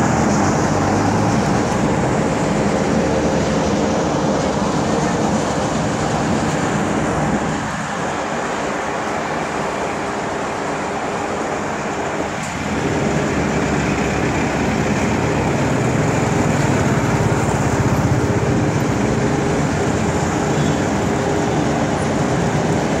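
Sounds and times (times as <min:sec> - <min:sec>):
bus engine running: 0:00.0 - 0:23.0
road traffic: 0:00.0 - 0:23.0.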